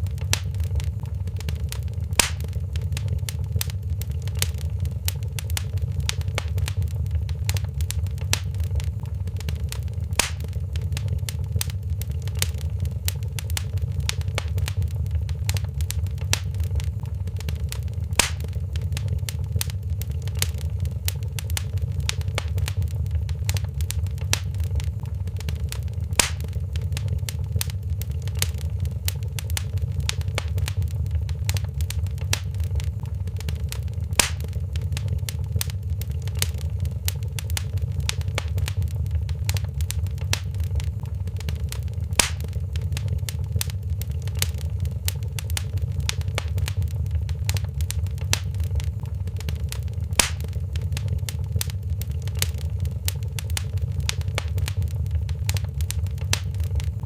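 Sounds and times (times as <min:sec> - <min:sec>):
loud fire pops: 0:00.0 - 0:57.0
wood fire crackling: 0:00.0 - 0:57.0.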